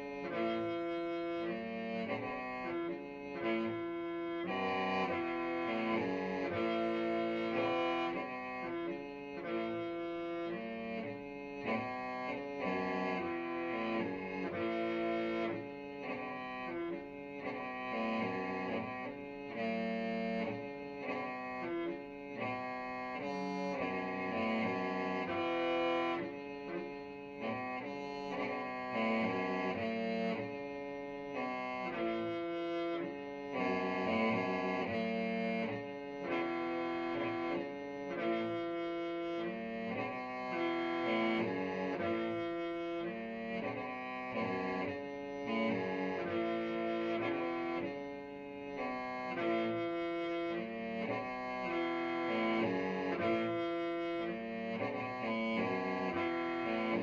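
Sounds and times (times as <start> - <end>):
reedy mouth organ tune: 0.0 - 57.0.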